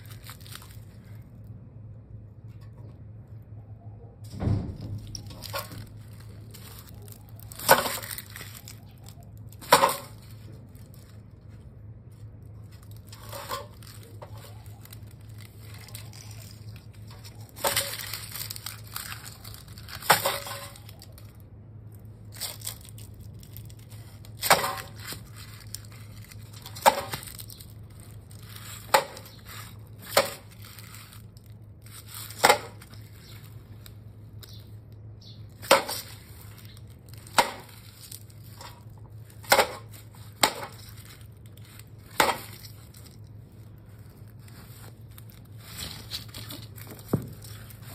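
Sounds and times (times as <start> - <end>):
low steady hum: 0.0 - 47.9.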